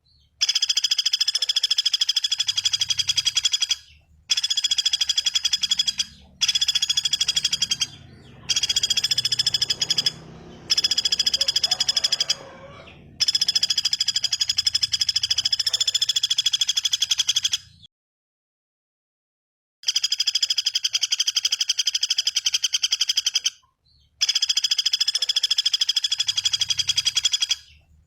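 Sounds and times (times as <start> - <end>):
songbird buzzy rattling trills: 0.2 - 17.8, 19.8 - 28.0.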